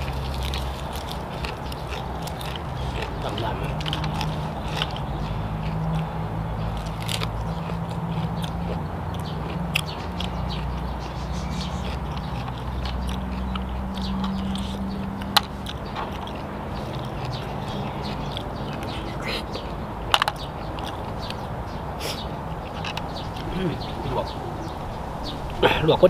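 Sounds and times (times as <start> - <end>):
chewing: 0.0 - 25.9.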